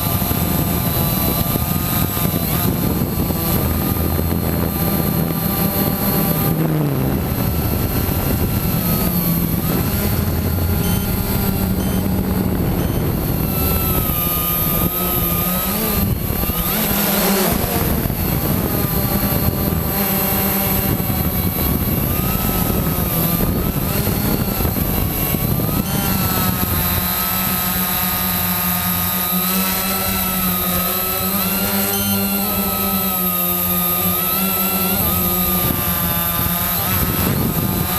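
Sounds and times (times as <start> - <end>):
drone propellers whining: 0.0 - 37.9.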